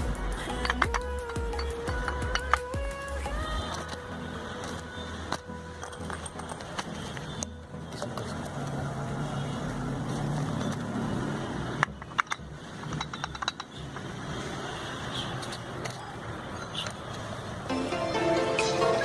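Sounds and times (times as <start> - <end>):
vehicle engine rumble: 0.0 - 17.7.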